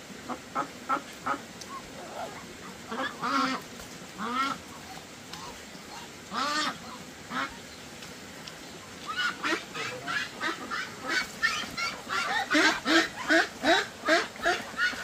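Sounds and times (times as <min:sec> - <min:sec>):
ducks quacking: 0:00.2 - 0:07.6, 0:09.0 - 0:15.0.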